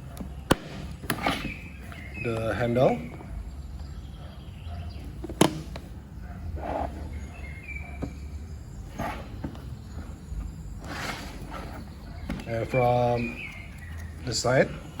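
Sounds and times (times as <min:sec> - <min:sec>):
bird chirp: 0:00.0 - 0:15.0.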